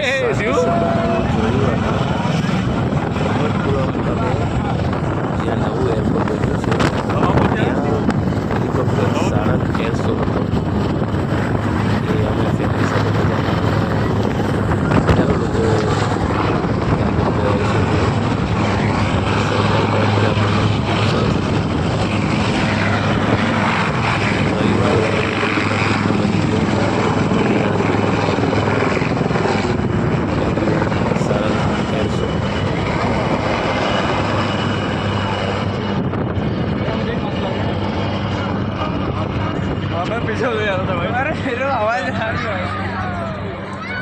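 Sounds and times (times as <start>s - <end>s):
aircraft engine and propeller drone: 0.0s - 44.0s.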